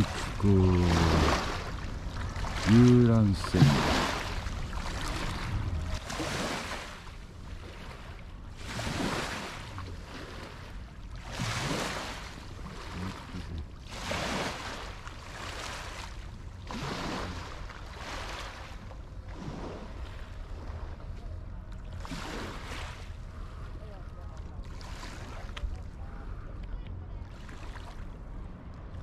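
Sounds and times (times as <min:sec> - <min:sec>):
low steady rumble: 0:00.0 - 0:29.0
small waves lapping: 0:00.0 - 0:29.0.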